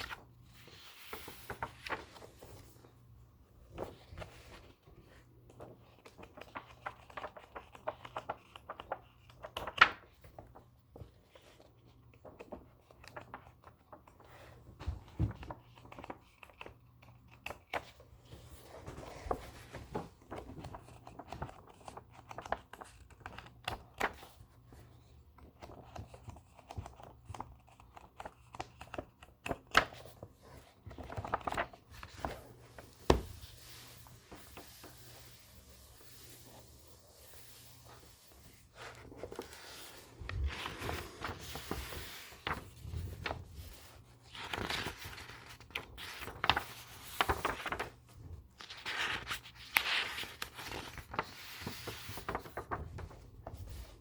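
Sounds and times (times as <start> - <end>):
book pages rustling: 0.0 - 54.0.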